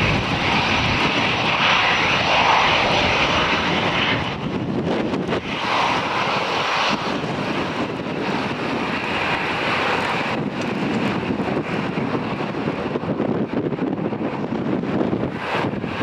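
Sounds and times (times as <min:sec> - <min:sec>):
airliner engine noise: 0:00.0 - 0:16.0
wind buffeting microphone: 0:00.0 - 0:16.0.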